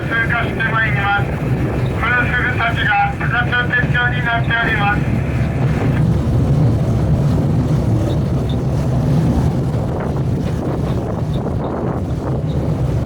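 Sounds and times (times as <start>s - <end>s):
rail cart engine drone: 0.0s - 13.0s
wind buffeting microphone: 0.0s - 13.0s.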